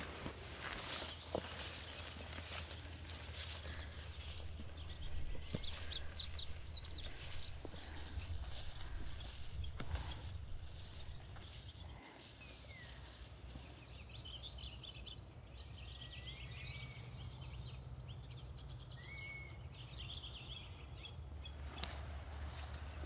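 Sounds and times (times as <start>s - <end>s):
low outdoor background rumble: 0.0s - 12.2s, 13.1s - 23.0s
songbird singing trills: 1.0s - 22.0s.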